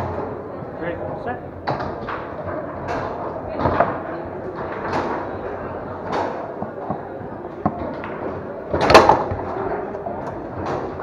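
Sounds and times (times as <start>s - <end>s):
foosball ball and rods clacking: 1.6s - 11.0s.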